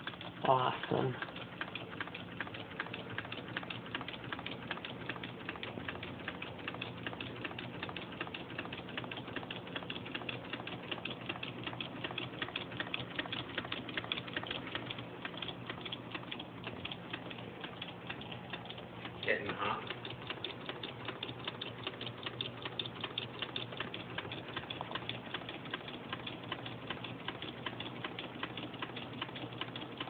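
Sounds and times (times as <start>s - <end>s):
engine parts clicking rapidly: 0.0s - 30.0s
low steady hum: 0.0s - 30.0s.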